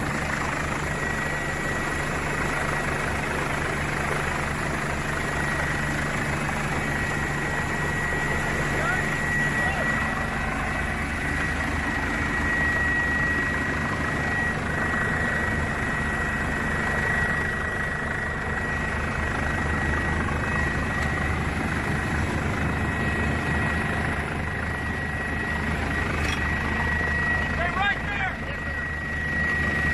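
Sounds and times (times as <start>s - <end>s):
helicopter running: 0.0s - 29.9s.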